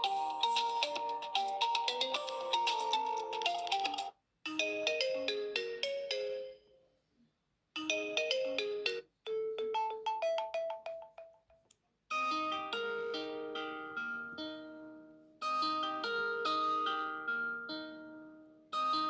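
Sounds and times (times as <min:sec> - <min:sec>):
phone ringtone melodies: 0:00.0 - 0:06.8, 0:07.8 - 0:11.4, 0:12.1 - 0:19.0.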